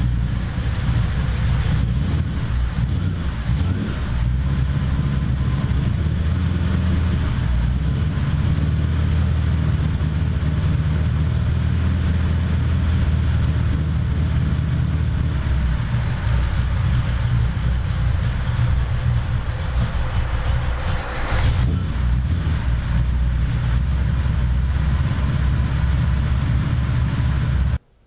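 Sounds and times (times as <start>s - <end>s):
truck engine idling: 0.0s - 27.9s.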